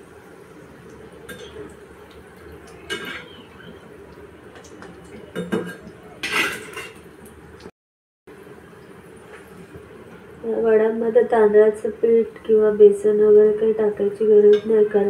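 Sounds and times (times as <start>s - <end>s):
oil frying: 0.0s - 7.7s, 8.3s - 15.0s.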